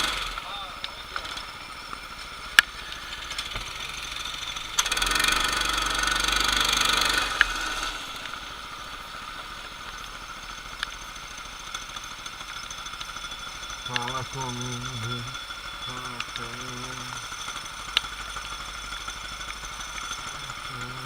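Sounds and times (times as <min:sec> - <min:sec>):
racing kart engines running: 0:00.0 - 0:21.0.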